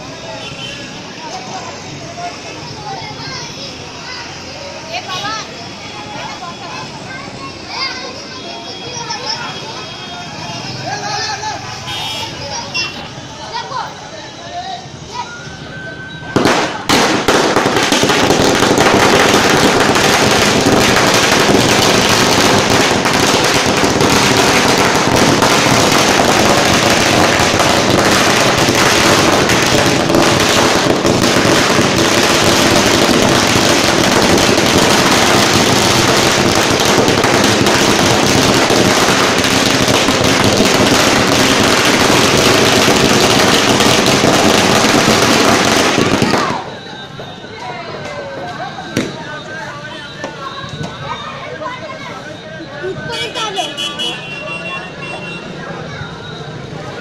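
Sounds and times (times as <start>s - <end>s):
firecrackers going off: 0.0s - 14.1s, 14.8s - 57.0s.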